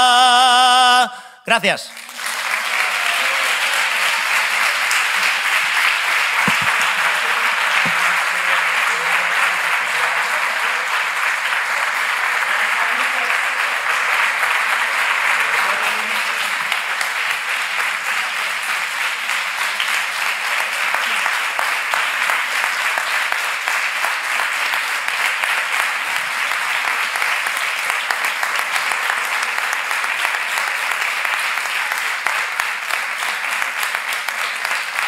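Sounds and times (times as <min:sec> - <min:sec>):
audience applauding: 0:01.5 - 0:35.0.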